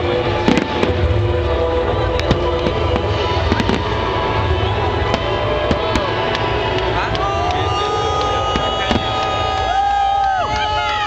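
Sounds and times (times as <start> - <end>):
fireworks bangs and crackling: 0.0 - 11.0
music playing: 0.0 - 11.0.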